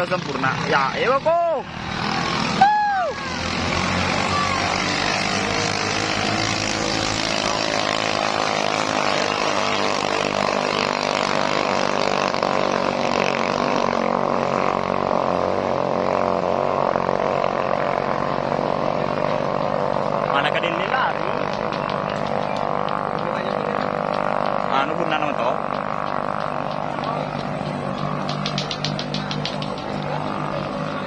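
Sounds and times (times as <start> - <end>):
boat engines droning: 0.0 - 31.0.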